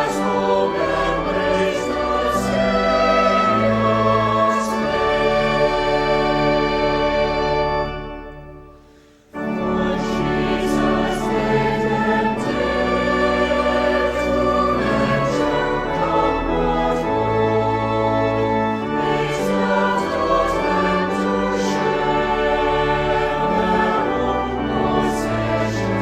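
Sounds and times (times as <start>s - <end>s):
choir singing: 0.0s - 26.0s
choir with orchestra: 0.0s - 26.0s.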